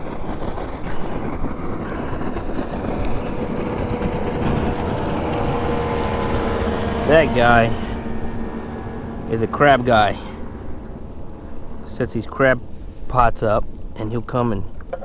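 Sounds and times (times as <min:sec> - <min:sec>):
water wash: 0:00.0 - 0:14.9
boat motor drone: 0:00.0 - 0:15.0
wind noise: 0:00.0 - 0:15.0.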